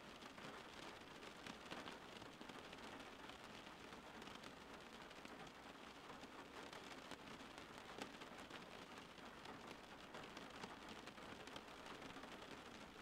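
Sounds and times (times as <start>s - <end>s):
faint steady rain: 0.0s - 13.0s.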